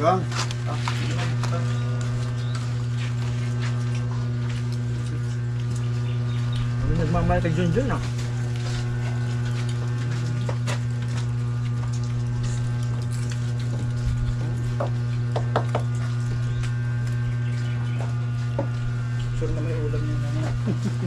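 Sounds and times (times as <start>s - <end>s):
loud low hum: 0.0s - 21.0s
clicks and knocks of eating: 0.4s - 6.8s, 8.4s - 19.4s.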